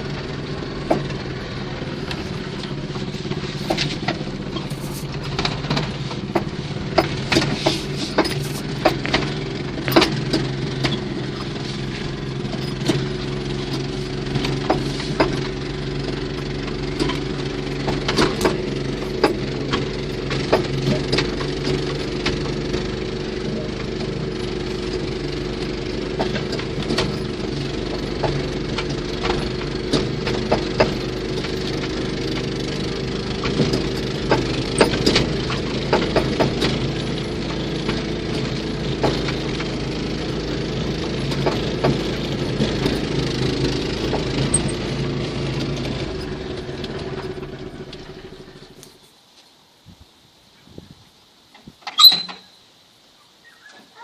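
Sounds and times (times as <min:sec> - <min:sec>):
sharp knocks and rattles: 0:00.0 - 0:48.8
small engine running: 0:00.0 - 0:49.0.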